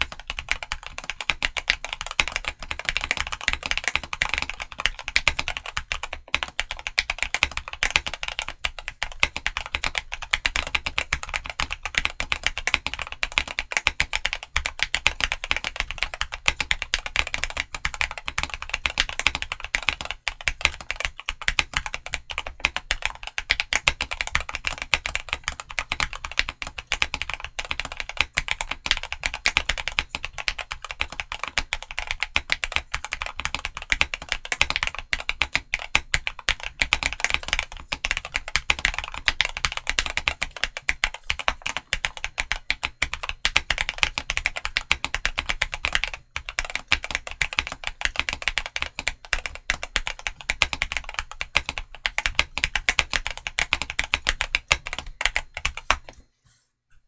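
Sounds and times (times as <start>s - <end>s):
fast typing on mechanical keyboard: 0.0s - 56.2s.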